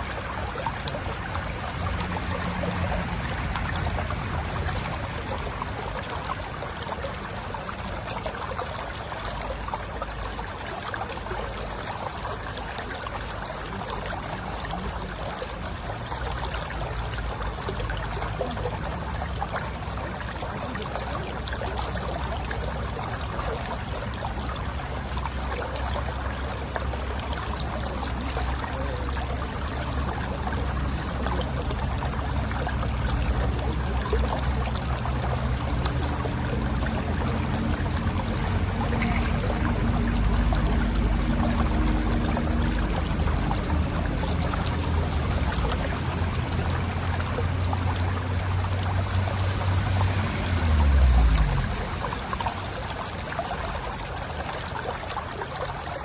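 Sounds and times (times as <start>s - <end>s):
river water over rocks: 0.0s - 56.0s.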